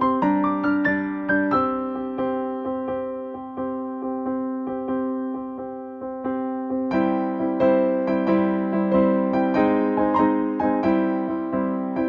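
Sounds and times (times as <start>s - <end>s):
gentle piano notes: 0.0s - 12.0s.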